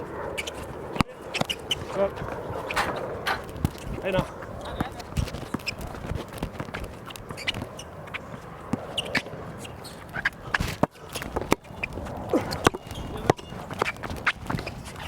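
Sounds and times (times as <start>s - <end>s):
players' footsteps: 0.0s - 15.0s.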